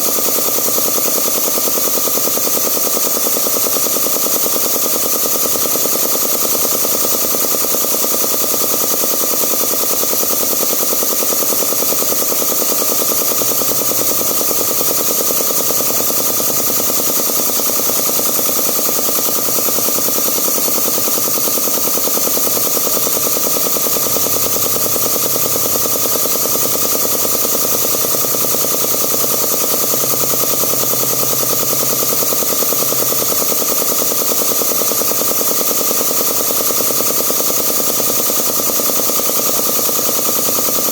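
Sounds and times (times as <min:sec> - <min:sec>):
air compressor rattling: 0:00.0 - 0:40.9.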